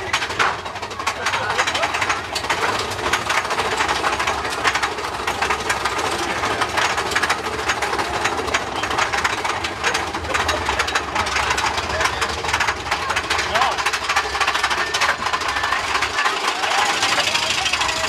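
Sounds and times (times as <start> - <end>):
roller coaster clattering on track: 0.0 - 18.0
steady rumble: 0.0 - 18.0.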